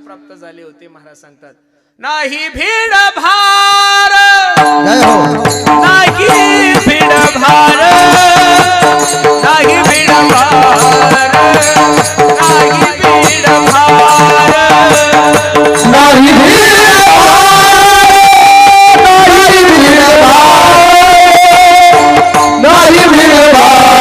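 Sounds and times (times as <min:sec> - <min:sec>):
devotional singing: 0:02.0 - 0:24.0
drum and cymbal percussion: 0:04.0 - 0:24.0.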